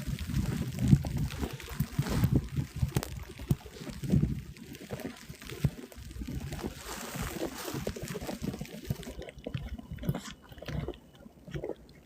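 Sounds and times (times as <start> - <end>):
footsteps in wet snow: 0.0 - 10.4.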